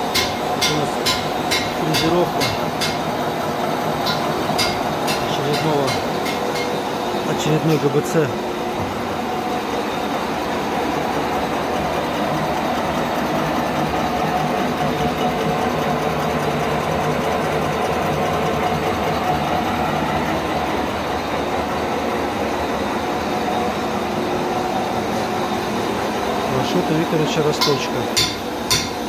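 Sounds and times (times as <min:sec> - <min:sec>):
milling machine hum: 0:00.0 - 0:29.0.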